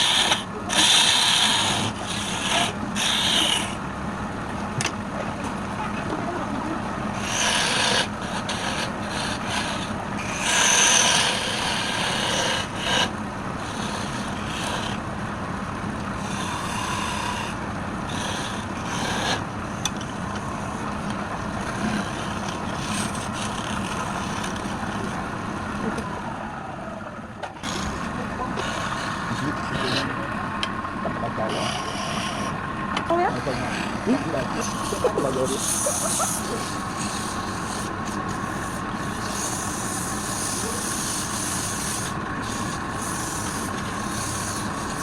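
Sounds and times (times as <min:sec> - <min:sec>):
tool scraping spinning wood: 0:00.0 - 0:26.3, 0:27.3 - 0:45.0
wood lathe humming: 0:00.0 - 0:45.0.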